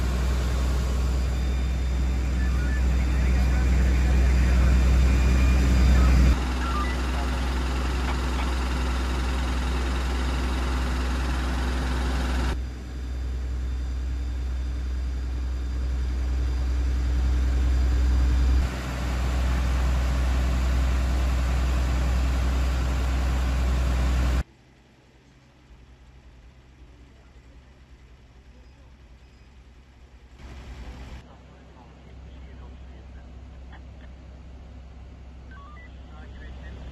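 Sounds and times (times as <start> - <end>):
fire truck engine rumbling: 0.0 - 36.9.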